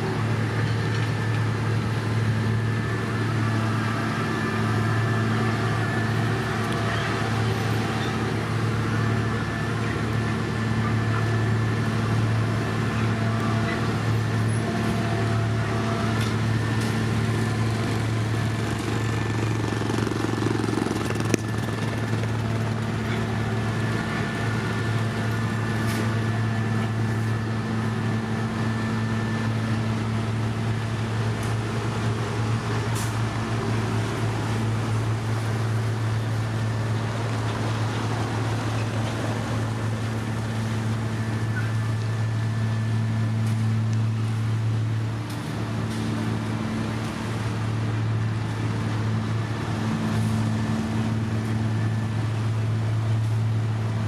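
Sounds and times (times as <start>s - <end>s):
heavy machine engine droning: 0.0s - 54.0s.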